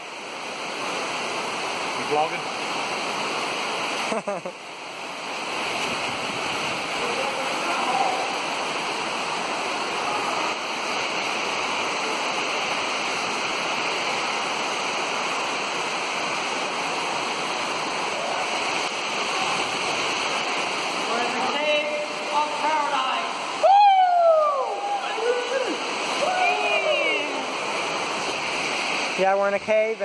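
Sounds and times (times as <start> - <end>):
creek water flowing over rocks: 0.0 - 30.0.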